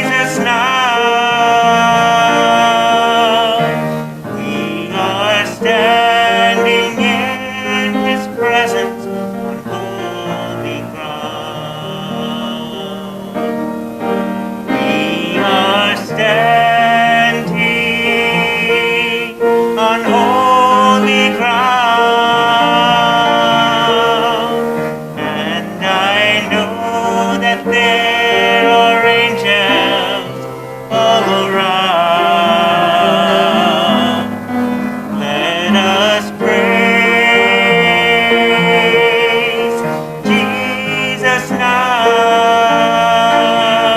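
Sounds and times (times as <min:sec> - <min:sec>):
person singing with vibrato: 0:00.0 - 0:43.9
piano chords: 0:00.0 - 0:43.9.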